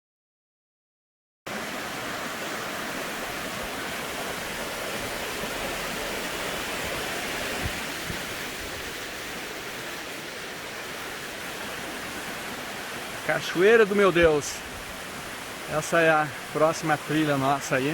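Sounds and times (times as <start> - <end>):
waterfall roaring: 1.5 - 17.9.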